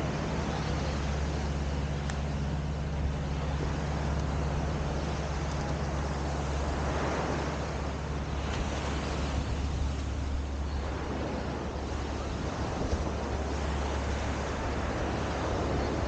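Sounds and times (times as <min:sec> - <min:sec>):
surf washing: 0:00.0 - 0:16.0
wind rumbling on microphone: 0:00.0 - 0:16.0.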